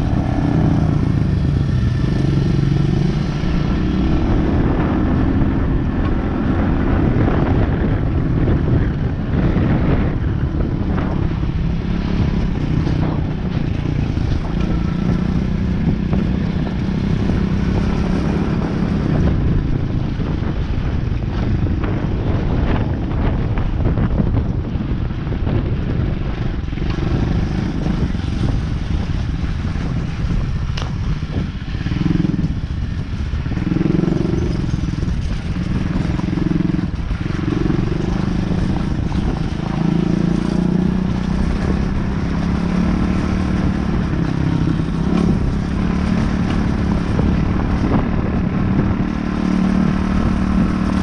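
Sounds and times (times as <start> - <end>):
off-road vehicle engine running: 0.0 - 51.0.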